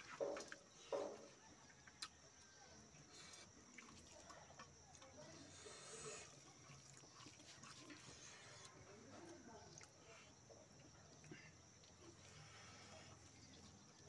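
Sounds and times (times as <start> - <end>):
faint eating by hand: 0.0 - 14.0.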